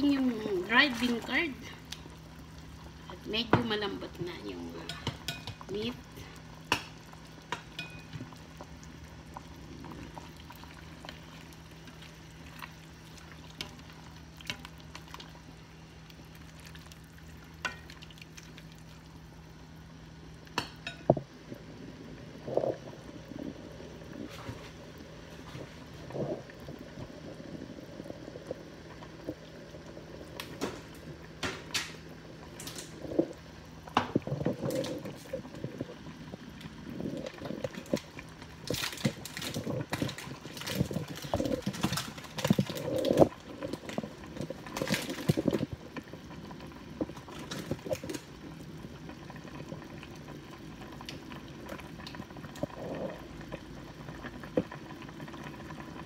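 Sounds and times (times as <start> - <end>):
soup boiling with pops: 0.0 - 56.0.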